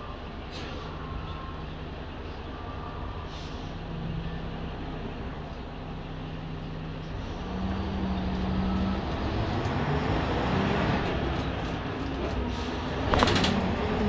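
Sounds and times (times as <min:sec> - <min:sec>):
bus diesel engine accelerating: 0:00.0 - 0:14.0.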